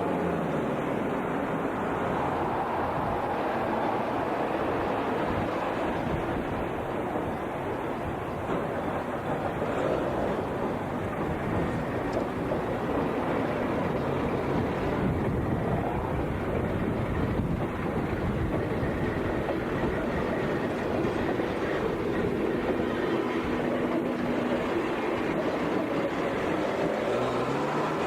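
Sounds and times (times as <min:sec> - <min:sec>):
train wheels on rail: 0:00.0 - 0:28.0.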